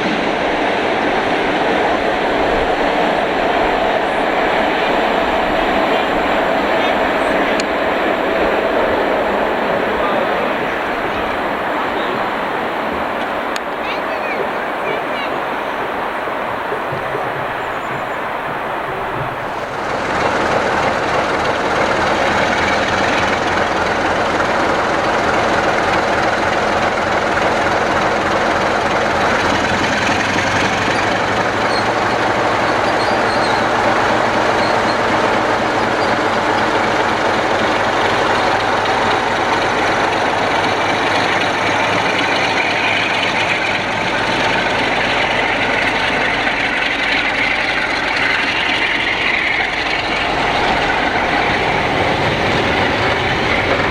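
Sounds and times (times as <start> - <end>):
train passing: 0.0 - 53.9.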